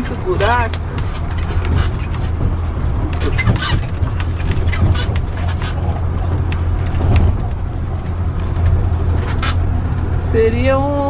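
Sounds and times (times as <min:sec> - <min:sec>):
clicks and rattles: 0:00.0 - 0:10.1
engine pulling hard uphill: 0:00.0 - 0:11.0.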